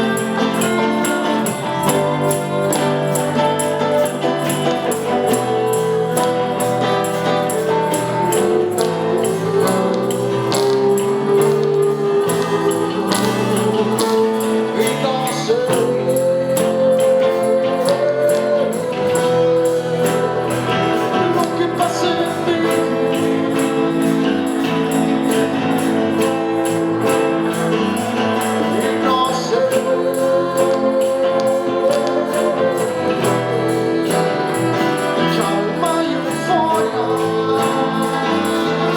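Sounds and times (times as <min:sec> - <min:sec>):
hand percussion beat: 0:00.0 - 0:38.9
small live band playing: 0:00.0 - 0:38.9.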